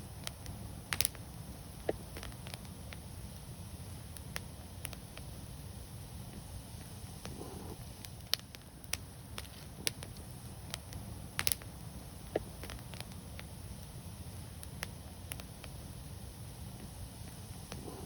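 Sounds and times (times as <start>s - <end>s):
logs crackling and popping: 0.0s - 18.0s
wood fire burning: 0.0s - 18.0s.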